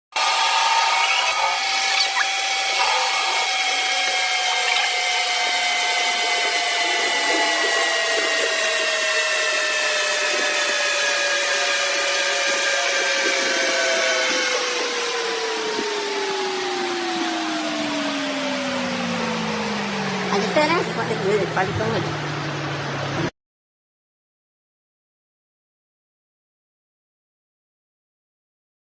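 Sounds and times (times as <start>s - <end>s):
lathe cutting wood: 0.1s - 23.3s.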